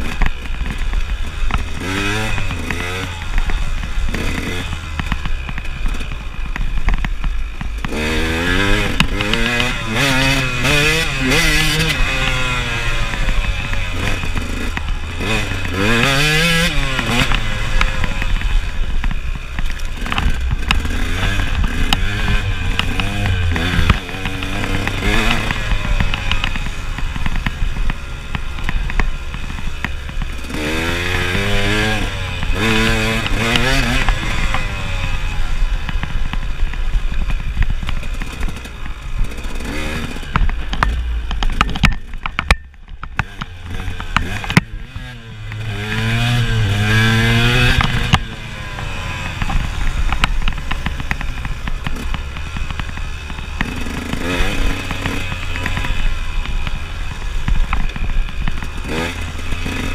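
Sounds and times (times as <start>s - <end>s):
bike knocking and rattling: 0.0s - 59.9s
motorcycle engine revving: 0.0s - 59.9s.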